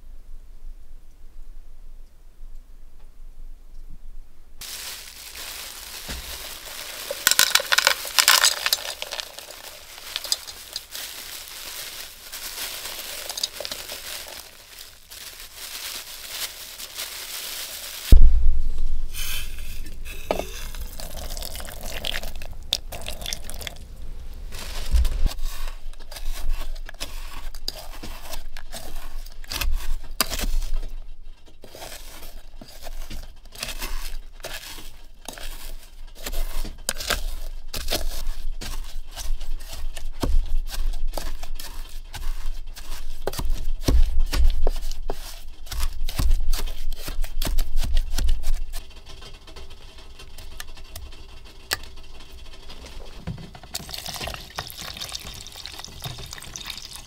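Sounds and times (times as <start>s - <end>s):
berries crushing wetly: 4.6s - 18.2s, 19.8s - 31.0s, 31.6s - 48.8s, 52.7s - 57.0s.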